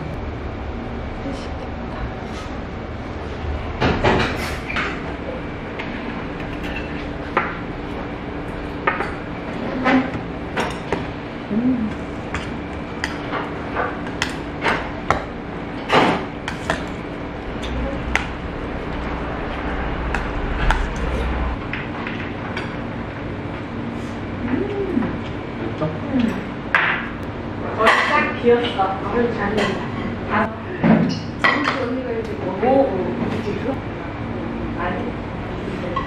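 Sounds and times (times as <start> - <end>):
low steady hum: 0.0 - 30.8.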